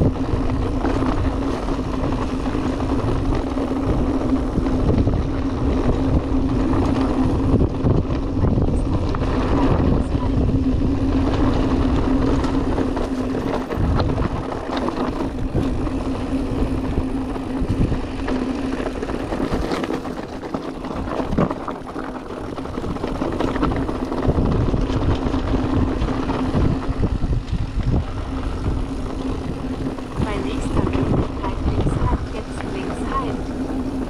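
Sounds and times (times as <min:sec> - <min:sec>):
bike knocks and rattles: 0:00.0 - 0:34.0
electric motor whine: 0:00.0 - 0:34.0
tyres rolling over rough ground: 0:00.0 - 0:34.0
wind on microphone: 0:00.0 - 0:34.0.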